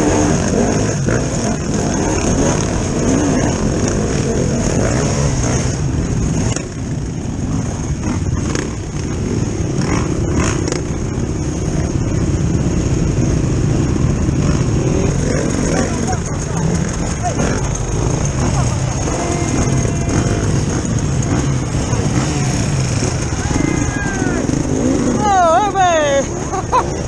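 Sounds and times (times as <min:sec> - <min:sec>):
dirt bike engine revving: 0:00.0 - 0:11.5, 0:12.2 - 0:26.8
other dirt bikes idling: 0:00.0 - 0:27.0.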